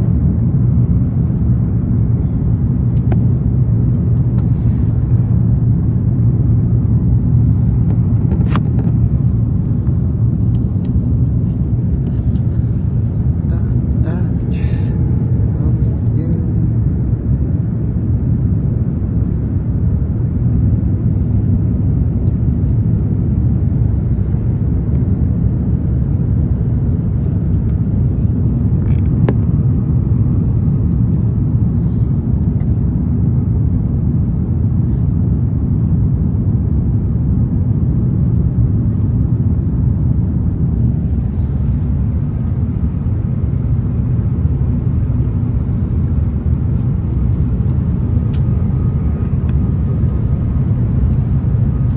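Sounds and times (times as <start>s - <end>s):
jet cabin rumble: 0.0s - 51.9s.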